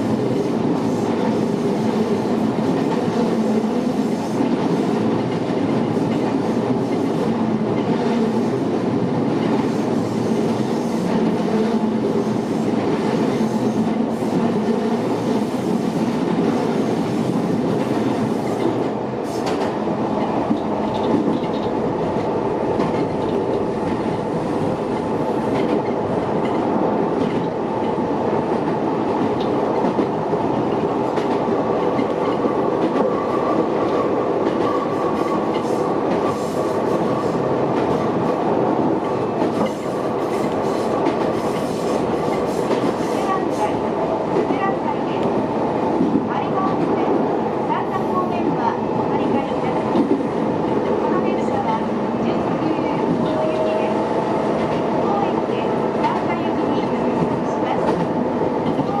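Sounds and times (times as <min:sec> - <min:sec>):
train rumbling on track: 0:00.0 - 0:59.0.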